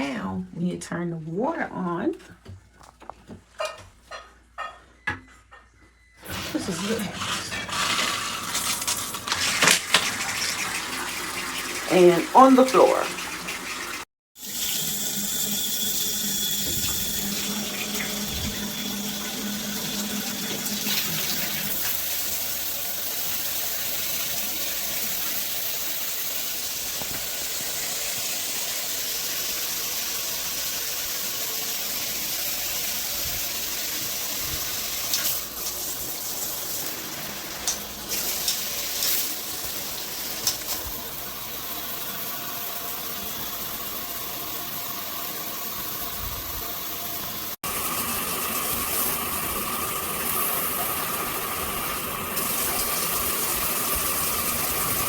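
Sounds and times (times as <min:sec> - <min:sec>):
water running from shower head: 0:06.2 - 0:55.0.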